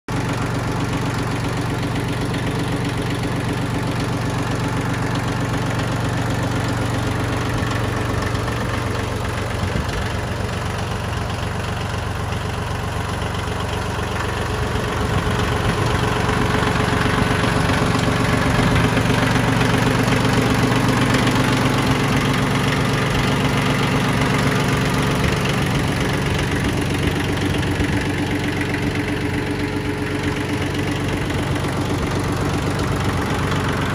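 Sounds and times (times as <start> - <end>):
tractor diesel engine idling: 0.1 - 33.9.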